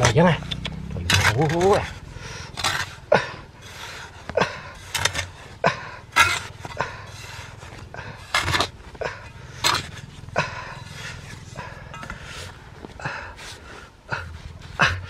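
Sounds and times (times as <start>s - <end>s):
shovel scraping sand: 0.0s - 12.6s.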